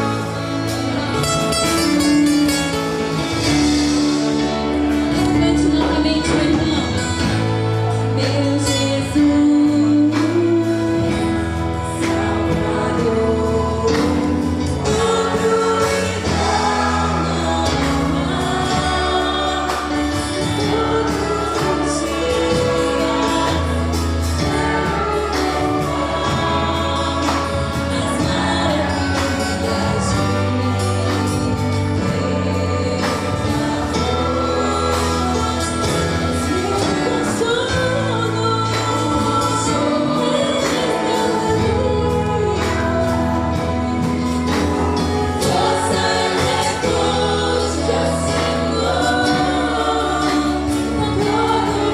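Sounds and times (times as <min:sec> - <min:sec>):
band with bass and drums: 0:00.0 - 0:51.9
group of voices singing: 0:00.0 - 0:51.9.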